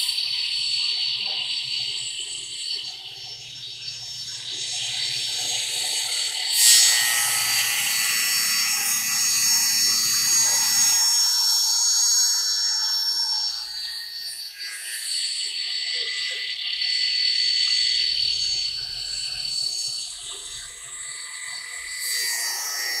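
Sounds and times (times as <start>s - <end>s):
saw spindle high-pitched whine: 0.0s - 23.0s.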